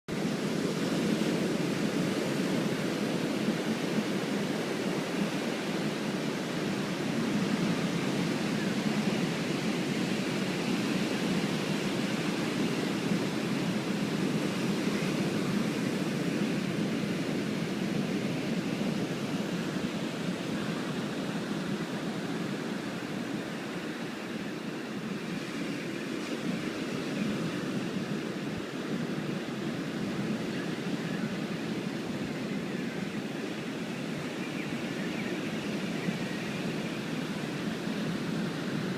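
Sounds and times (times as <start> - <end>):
wind and rain rushing: 0.1 - 38.9.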